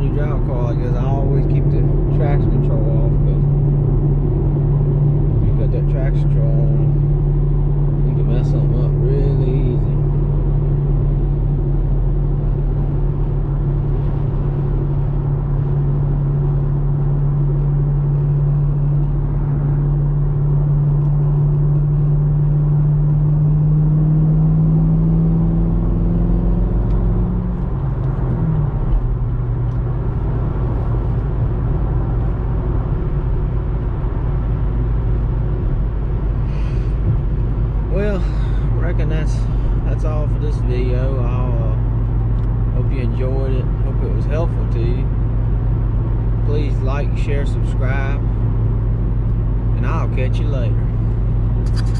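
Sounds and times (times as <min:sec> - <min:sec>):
car engine while driving: 0:00.0 - 0:51.9.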